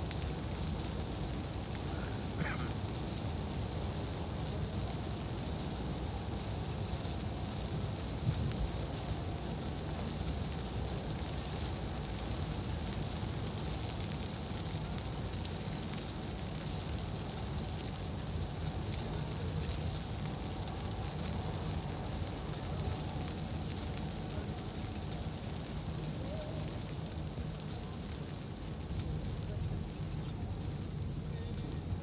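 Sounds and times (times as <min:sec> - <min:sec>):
car tyres rumbling on wet road: 0:00.0 - 0:32.0
raindrops ticking on windscreen: 0:00.0 - 0:32.0.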